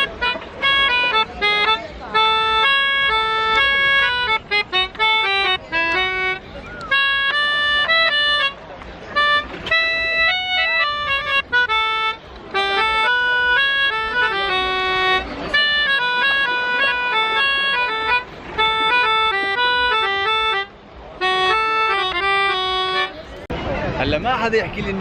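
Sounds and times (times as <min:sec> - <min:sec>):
accordion melody: 0:00.0 - 0:23.5.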